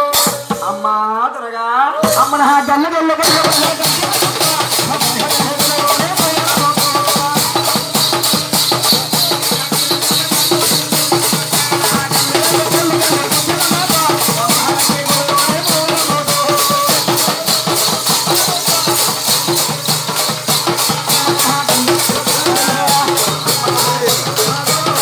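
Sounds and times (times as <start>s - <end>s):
rattling and drum beat: 2.0s - 25.0s.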